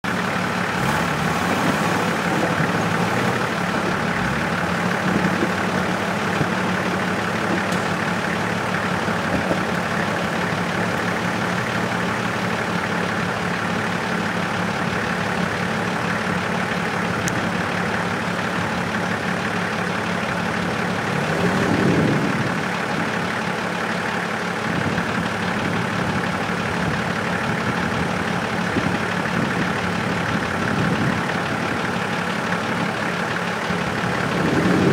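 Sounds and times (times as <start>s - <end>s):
off-road vehicle engine running: 0.0s - 34.9s.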